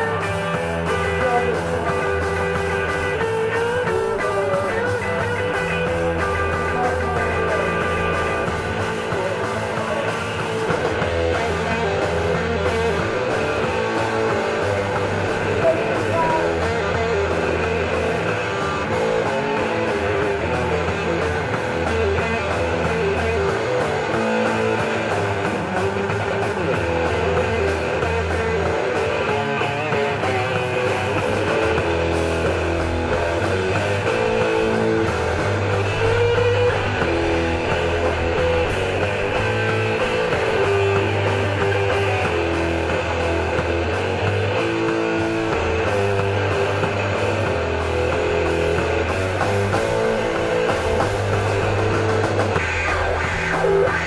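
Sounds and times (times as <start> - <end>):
bass notes: 0.0 - 54.0
drums: 0.0 - 54.0
electric guitar: 0.0 - 54.0.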